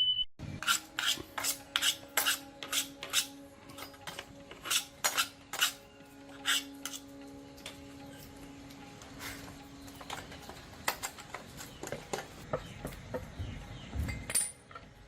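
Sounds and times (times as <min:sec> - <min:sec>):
hand tools clinking on metal: 0:00.6 - 0:12.4, 0:14.1 - 0:15.0.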